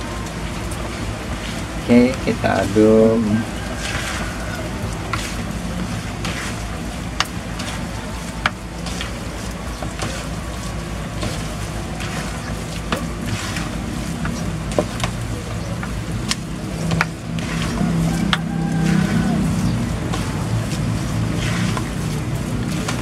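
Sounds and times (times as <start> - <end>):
spatula stirring dough in bowl: 0.0 - 23.0.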